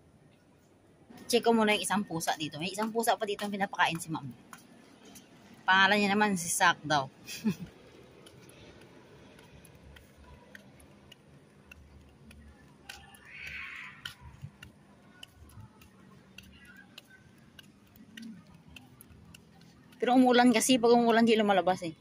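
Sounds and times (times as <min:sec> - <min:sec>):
faint clicks and ticks: 0:00.3 - 0:22.0.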